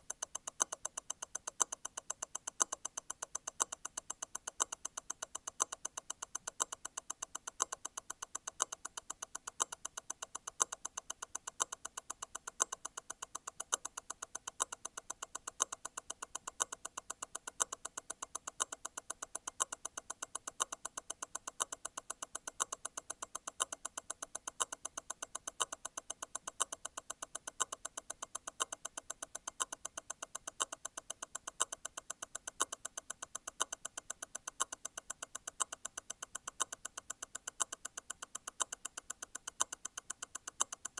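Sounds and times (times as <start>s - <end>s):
watch movement ticking: 0.0s - 40.9s.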